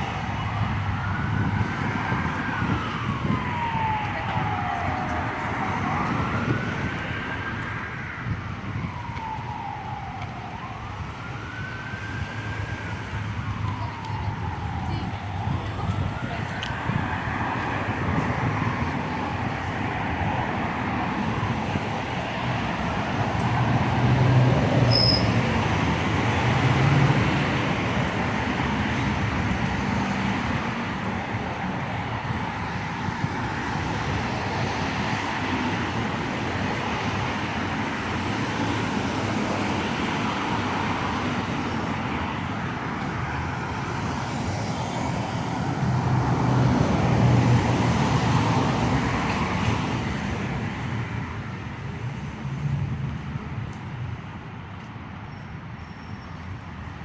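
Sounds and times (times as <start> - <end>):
street traffic passing: 0.0 - 57.0.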